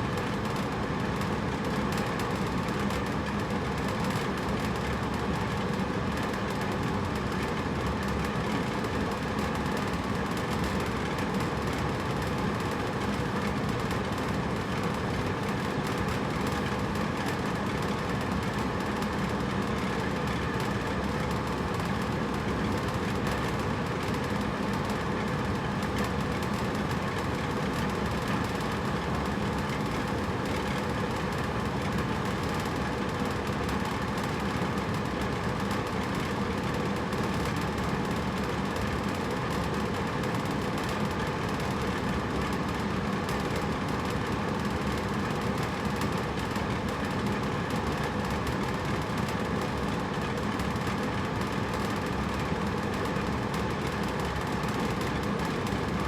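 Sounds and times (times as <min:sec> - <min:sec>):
air conditioner blowing hum: 0:00.0 - 0:56.0.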